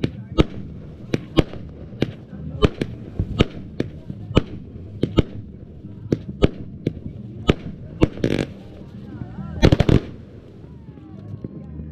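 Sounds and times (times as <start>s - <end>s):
fireworks bangs: 0.0s - 11.6s
fireworks crackling: 0.0s - 11.9s.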